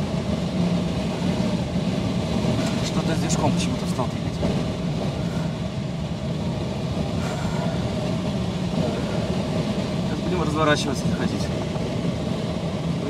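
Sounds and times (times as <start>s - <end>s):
plane piston engine drone: 0.0s - 13.0s.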